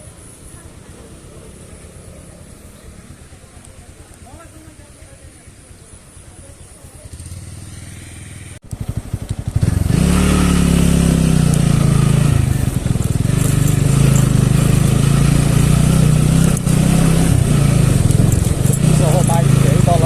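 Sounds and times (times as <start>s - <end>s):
motorcycle engine pulling away: 0.0s - 4.7s, 5.3s - 20.0s.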